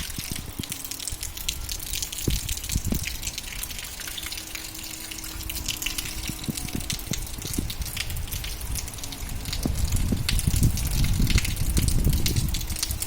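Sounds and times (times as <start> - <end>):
heavy rain falling: 0.0 - 13.0
raindrops pattering: 0.0 - 13.0
rainwater gushing: 0.0 - 13.0.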